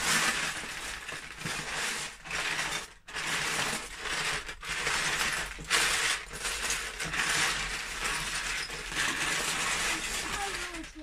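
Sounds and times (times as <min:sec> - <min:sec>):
plastic bricks clattering: 0:00.0 - 0:11.0.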